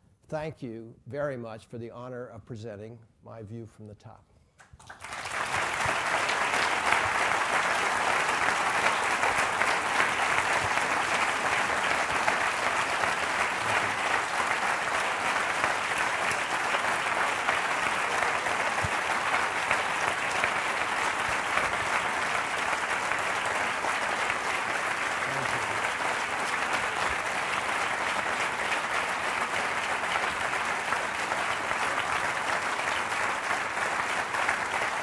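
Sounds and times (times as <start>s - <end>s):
audience applauding: 4.7s - 35.0s.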